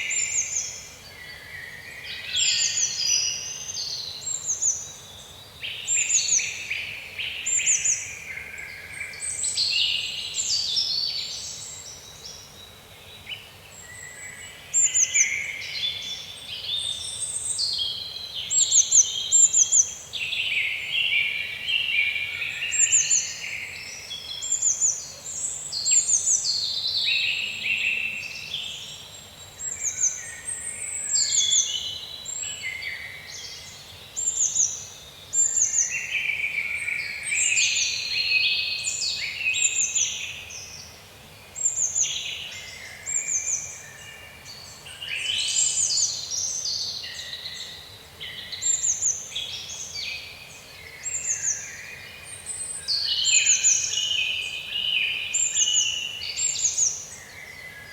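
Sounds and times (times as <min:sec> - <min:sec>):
faint steady hiss: 0:00.0 - 0:57.9
small birds singing: 0:00.0 - 0:57.9.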